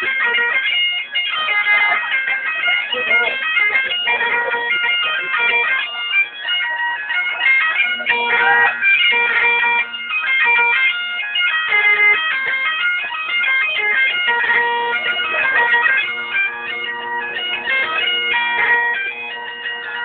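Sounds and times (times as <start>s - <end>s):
bagpipe chanter melody: 0.0s - 20.0s
bagpipe drones humming: 0.0s - 20.0s.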